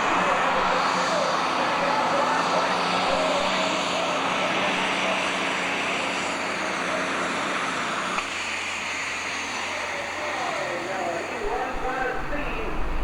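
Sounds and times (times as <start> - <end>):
diesel tractor engine running hard: 0.0 - 13.0.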